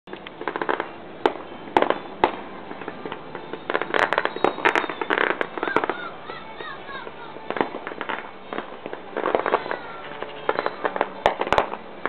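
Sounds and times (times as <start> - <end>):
fireworks crackling: 0.1 - 12.0
fireworks sharp bangs: 0.1 - 12.0.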